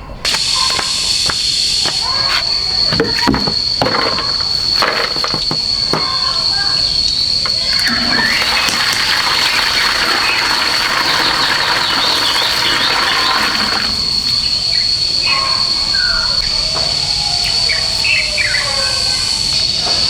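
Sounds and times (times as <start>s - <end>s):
insects chirring: 0.0s - 20.0s
short scattered calls: 0.1s - 19.6s.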